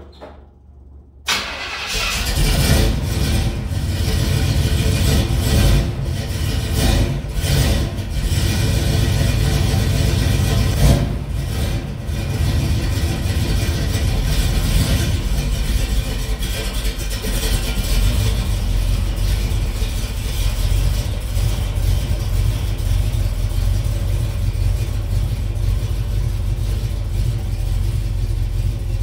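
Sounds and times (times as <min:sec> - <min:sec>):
car engine starting and revving: 0:01.3 - 0:29.0.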